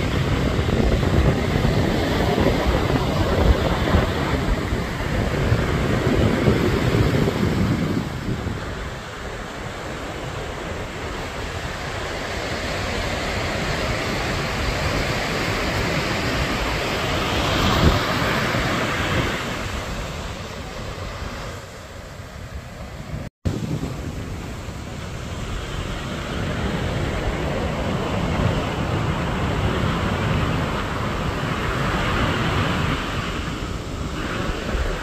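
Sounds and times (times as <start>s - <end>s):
waves breaking on beach: 0.0s - 35.0s
wind buffeting microphone: 0.0s - 35.0s.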